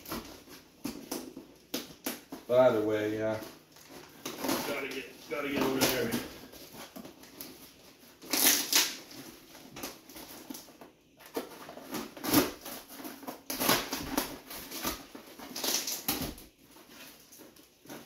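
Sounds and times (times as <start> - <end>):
cardboard parcel tearing: 0.0 - 18.0.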